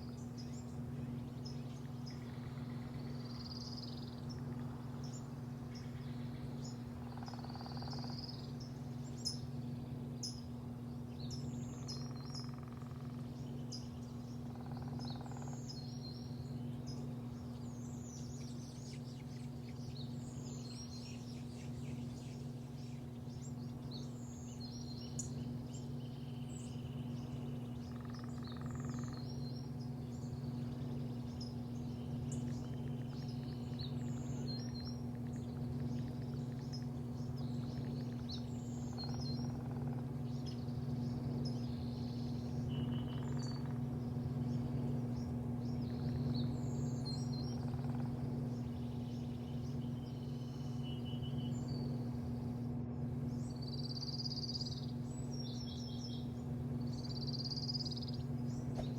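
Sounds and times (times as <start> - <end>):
low mechanical hum: 0.0 - 58.9
small birds chirping: 0.0 - 58.9.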